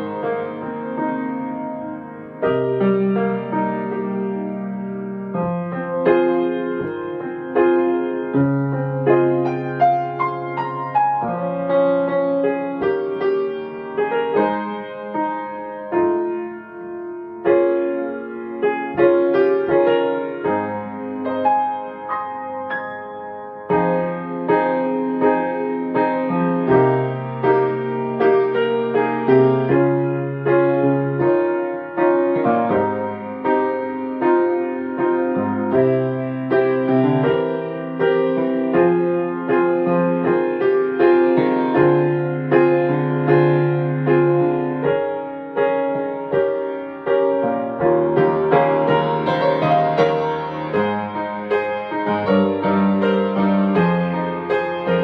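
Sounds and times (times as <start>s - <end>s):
solo piano chords: 0.0s - 55.0s.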